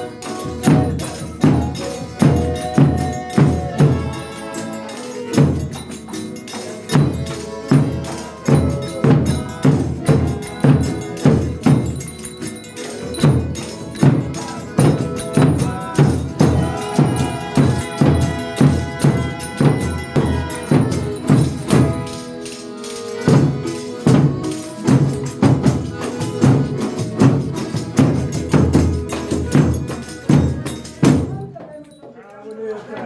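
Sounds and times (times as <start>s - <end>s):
long held notes: 0.0s - 28.0s
drum beat: 0.0s - 31.9s
tambourine jingling: 0.0s - 32.5s.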